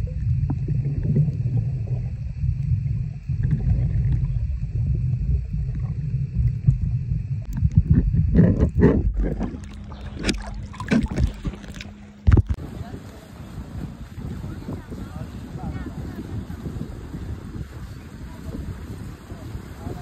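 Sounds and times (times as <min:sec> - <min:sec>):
faint high whine: 0:00.0 - 0:20.0
underwater rumble: 0:00.0 - 0:20.0
water splashes: 0:00.0 - 0:20.0.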